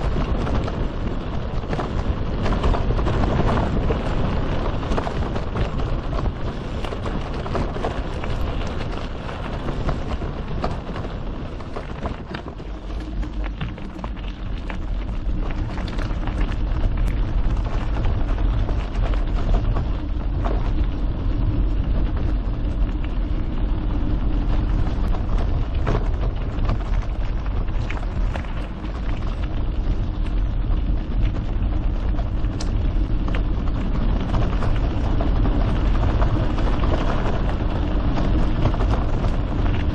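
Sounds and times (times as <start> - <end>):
bike clicks and rattles: 0.0 - 39.9
wind rumble on microphone: 0.0 - 39.9.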